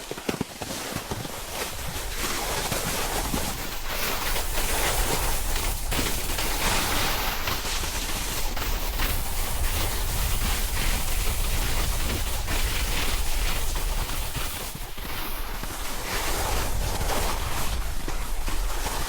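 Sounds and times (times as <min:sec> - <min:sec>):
snowboard sliding over snow: 0:00.0 - 0:19.0
wind rushing on microphone: 0:01.7 - 0:19.0.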